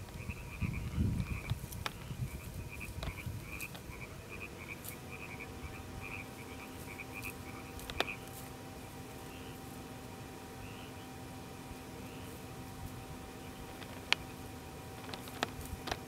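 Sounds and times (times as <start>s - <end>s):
frogs croaking: 0.0s - 16.0s.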